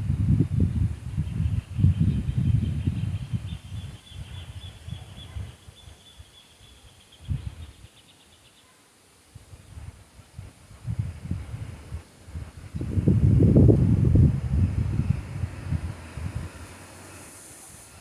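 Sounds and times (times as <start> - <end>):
wind gusting against microphone: 0.0 - 8.0, 9.3 - 18.0.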